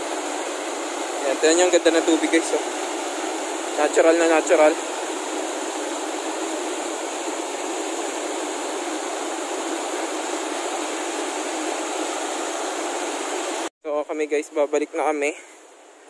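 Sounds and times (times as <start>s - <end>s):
water rushing over boulders: 0.0s - 13.7s.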